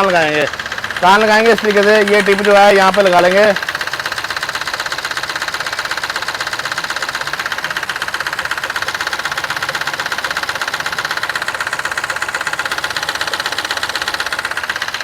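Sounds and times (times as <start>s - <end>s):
diesel engine ticking idle: 0.0s - 15.0s.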